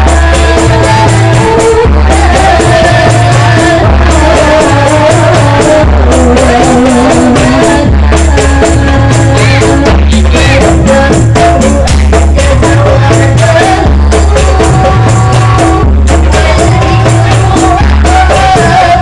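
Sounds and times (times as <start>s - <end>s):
deep barrel drum strokes: 0.0s - 19.0s
hand drums beating quickly: 0.0s - 19.0s
women singing into microphones: 0.0s - 19.0s.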